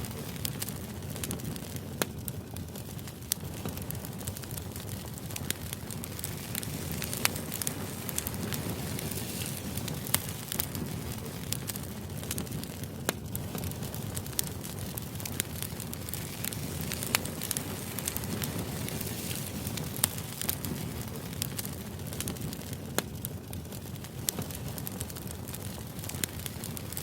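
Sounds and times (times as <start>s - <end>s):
crackling fire: 0.0s - 27.0s.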